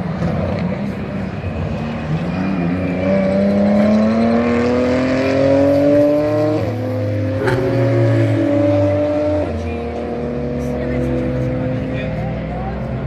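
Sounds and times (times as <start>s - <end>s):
race car engine accelerating: 0.0s - 13.0s.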